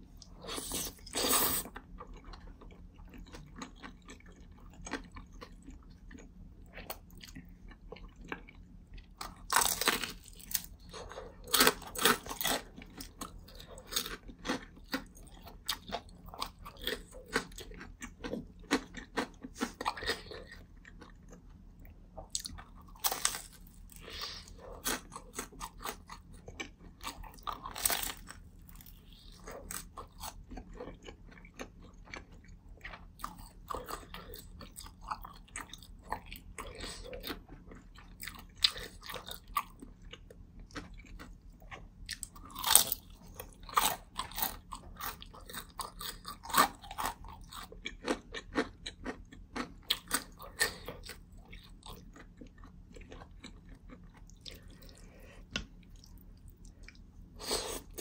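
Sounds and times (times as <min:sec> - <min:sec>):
crunchy chewing of fried food: 0:00.0 - 0:58.0.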